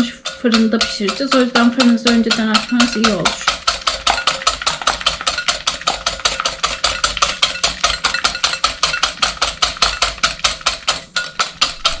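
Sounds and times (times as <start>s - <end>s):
whisk beating egg whites: 0.0s - 12.0s.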